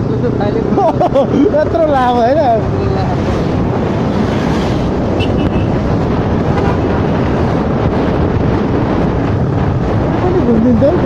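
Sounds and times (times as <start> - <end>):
low vehicle rumble: 0.0 - 11.0
wind buffeting microphone: 0.0 - 11.0.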